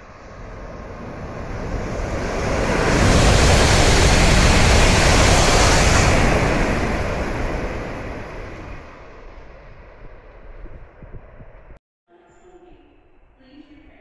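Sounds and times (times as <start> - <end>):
bullet train passing at speed: 0.0 - 11.8.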